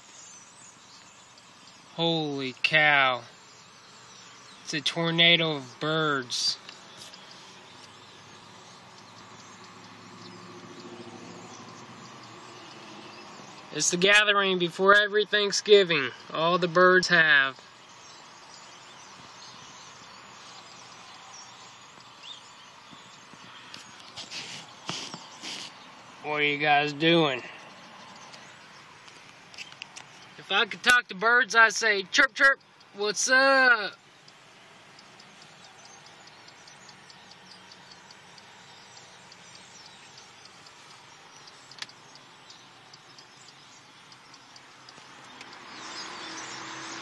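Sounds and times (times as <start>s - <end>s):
bird chirps: 0.0s - 47.0s
flock of birds chattering: 0.0s - 47.0s
steady background hiss: 0.0s - 47.0s.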